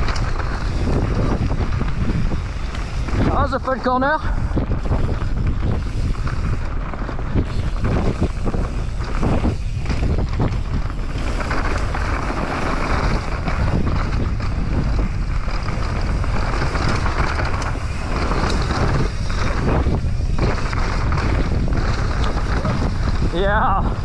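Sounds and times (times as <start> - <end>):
bike rattling: 0.0 - 24.0
bike tyres rumbling: 0.0 - 24.0
wind rushing over microphone: 0.0 - 24.0.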